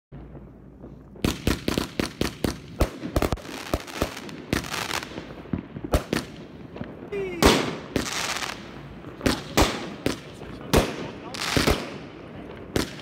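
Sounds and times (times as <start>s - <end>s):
firecrackers banging: 0.1s - 13.0s
fireworks crackling: 0.1s - 13.0s.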